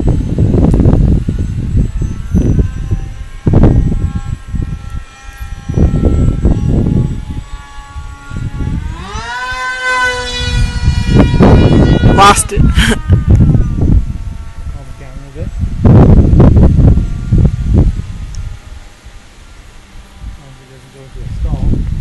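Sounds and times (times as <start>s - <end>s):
model plane propeller whine: 0.0s - 22.0s
wind buffeting microphone: 0.0s - 22.0s.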